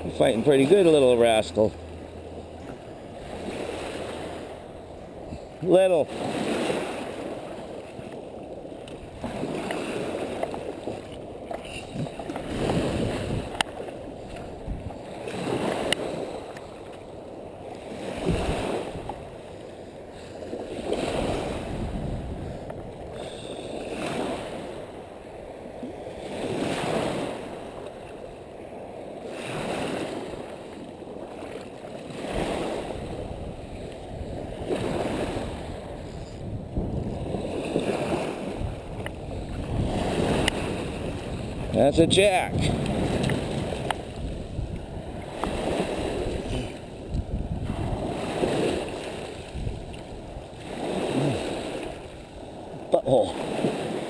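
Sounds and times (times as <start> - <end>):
small waves washing onto beach: 0.0 - 54.0.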